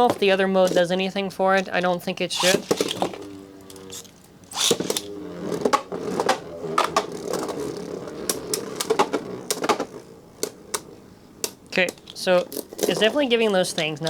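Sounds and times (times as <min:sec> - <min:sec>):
spinning tops whirring: 0:00.0 - 0:14.0
spinning tops clashing clicks: 0:02.3 - 0:14.0.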